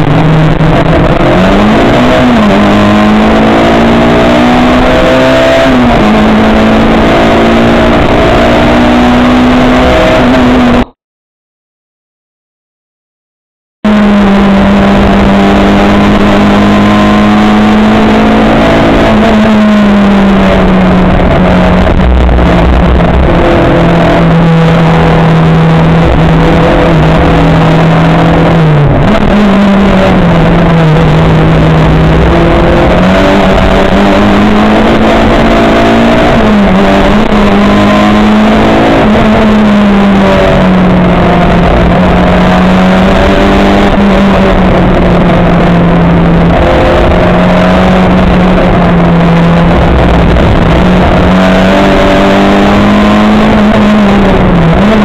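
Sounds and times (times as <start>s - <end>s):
race car engine running hard: 0.0s - 11.0s, 13.8s - 55.0s.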